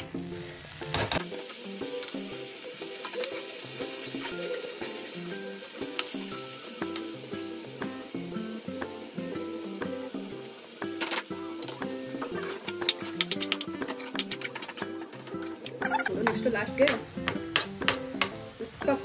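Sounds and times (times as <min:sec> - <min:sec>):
simple background melody: 0:00.0 - 0:19.0
leaves sizzling in hot oil: 0:00.1 - 0:19.0.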